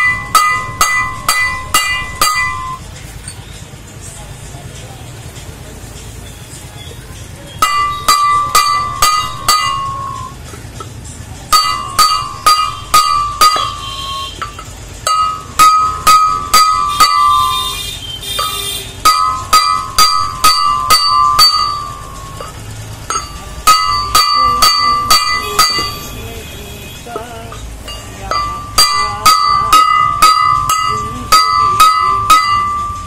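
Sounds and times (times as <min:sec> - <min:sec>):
hammer striking steel drift: 0:00.0 - 0:03.4, 0:07.6 - 0:10.9, 0:11.5 - 0:26.3, 0:27.2 - 0:33.0.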